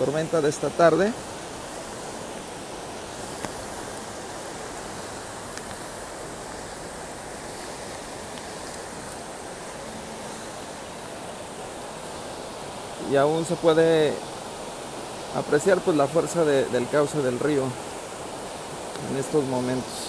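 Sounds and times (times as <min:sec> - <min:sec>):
river rushing in flood: 0:00.0 - 0:20.0.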